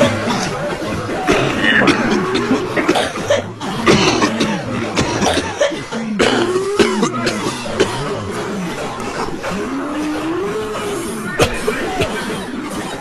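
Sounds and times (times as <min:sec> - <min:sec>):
crowd coughing: 0:00.0 - 0:13.0
throat clearing: 0:00.0 - 0:13.0.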